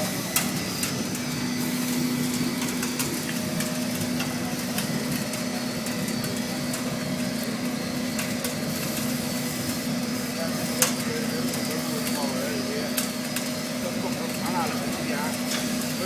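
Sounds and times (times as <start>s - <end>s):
burner blower and flame roaring: 0.0s - 16.0s.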